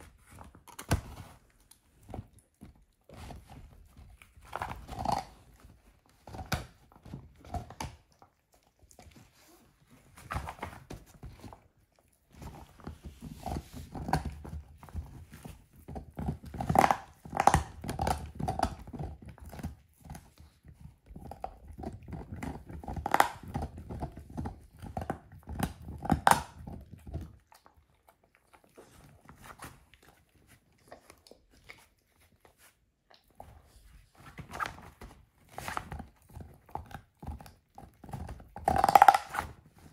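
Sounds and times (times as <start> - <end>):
dog crunching a bone: 0.0 - 39.9.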